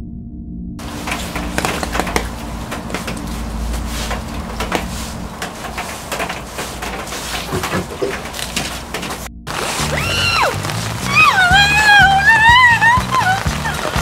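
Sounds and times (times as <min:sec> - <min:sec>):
objects being handled: 0:00.8 - 0:14.0.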